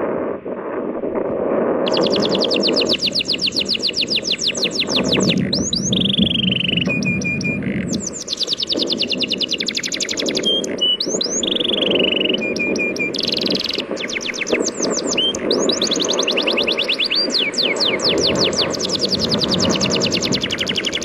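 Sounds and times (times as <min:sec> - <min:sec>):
songbird trilling and whistling: 0:01.9 - 0:21.0.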